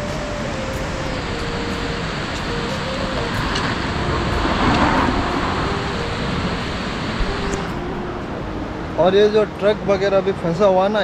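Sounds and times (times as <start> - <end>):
flooded river rushing: 0.0 - 10.8.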